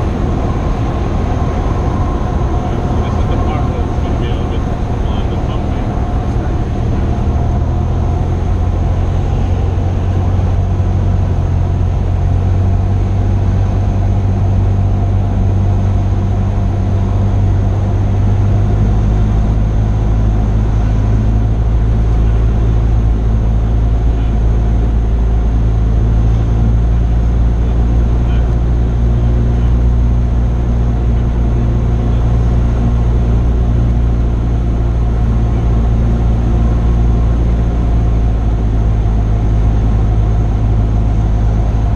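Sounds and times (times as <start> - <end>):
plane engine and propeller drone: 0.0 - 41.9.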